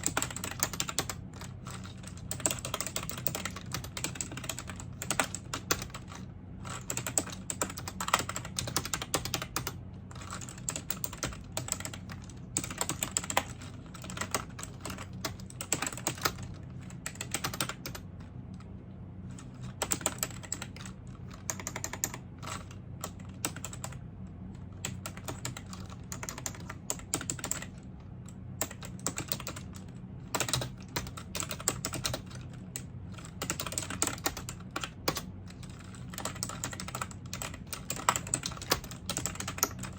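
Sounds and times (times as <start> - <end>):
computer keyboard typing: 0.0 - 18.7, 19.3 - 24.0, 24.8 - 39.9.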